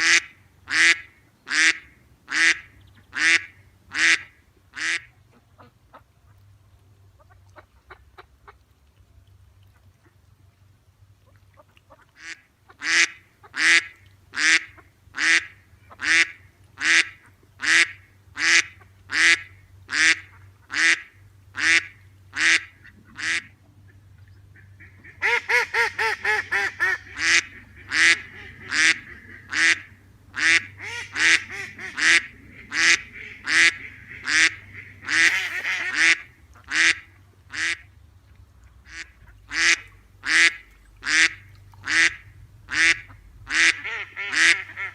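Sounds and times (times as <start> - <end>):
duck quacking: 0.0 - 6.0, 11.9 - 23.5, 24.6 - 37.9, 38.9 - 44.9.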